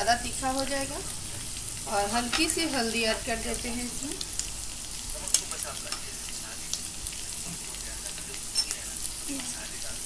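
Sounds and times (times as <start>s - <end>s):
cheese cubes sizzling in fat: 0.0s - 10.0s.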